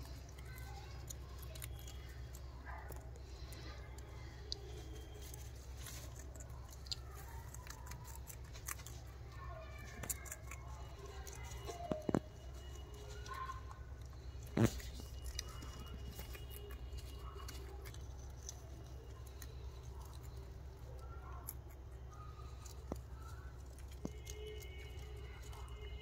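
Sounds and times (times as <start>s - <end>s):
low steady hum: 0.0s - 26.0s
rabbits nibbling and rustling leaves: 0.0s - 26.0s.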